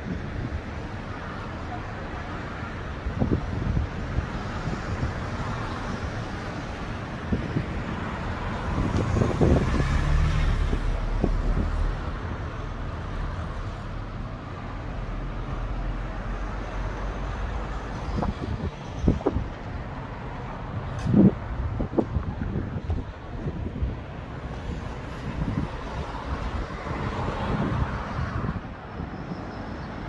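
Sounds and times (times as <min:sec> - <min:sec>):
wind buffeting microphone: 0:00.0 - 0:13.9, 0:17.3 - 0:30.0
road traffic passing: 0:00.0 - 0:30.0.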